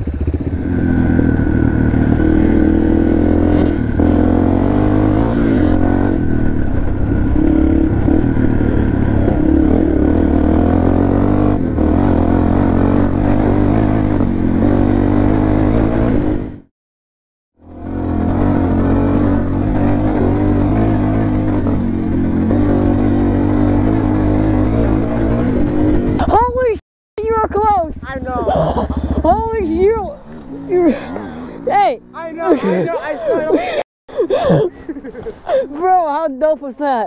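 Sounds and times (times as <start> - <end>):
dirt bike engine revving: 0.0 - 16.7, 17.6 - 33.8.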